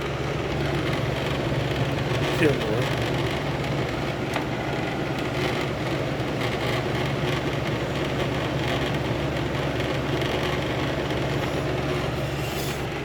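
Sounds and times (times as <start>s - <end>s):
air conditioner fan blowing: 0.0s - 13.0s.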